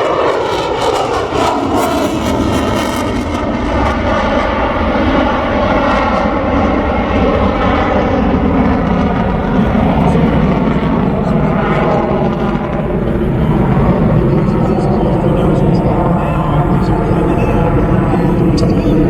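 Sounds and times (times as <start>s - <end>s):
jet low pass roar: 0.0s - 19.0s.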